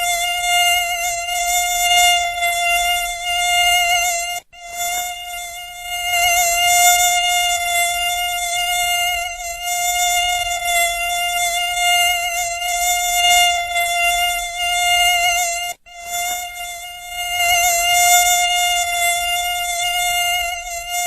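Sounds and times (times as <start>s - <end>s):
mosquito buzzing whine: 0.0s - 21.0s.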